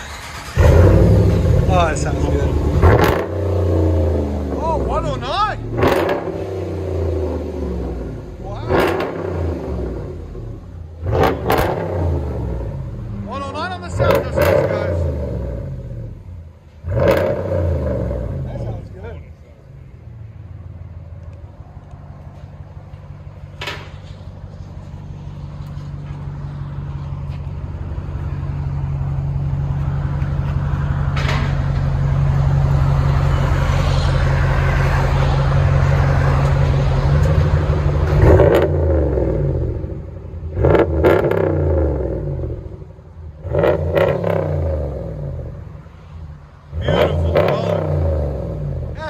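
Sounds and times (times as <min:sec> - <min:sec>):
truck engine idling and revving: 0:00.0 - 0:49.0.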